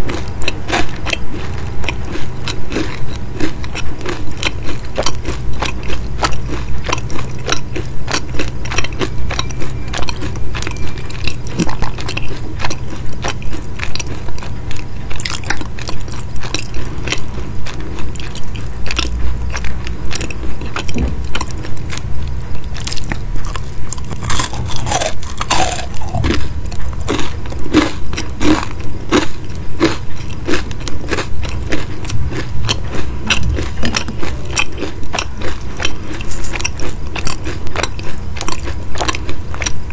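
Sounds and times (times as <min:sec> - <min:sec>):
chewing crisp pastry: 0:00.0 - 0:39.9.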